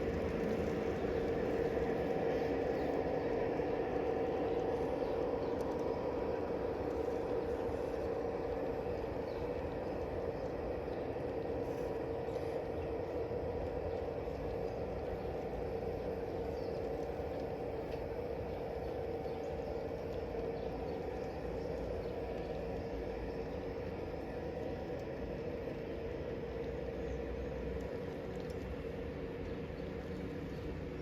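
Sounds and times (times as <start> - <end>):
train running with hum and whine: 0.0 - 31.0.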